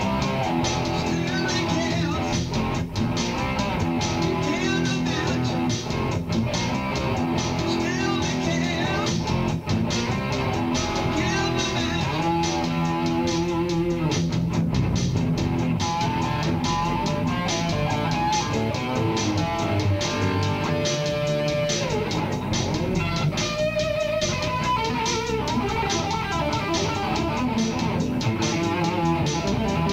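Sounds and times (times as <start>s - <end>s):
bass guitar line: 0.0s - 29.9s
electric guitar: 0.0s - 29.9s.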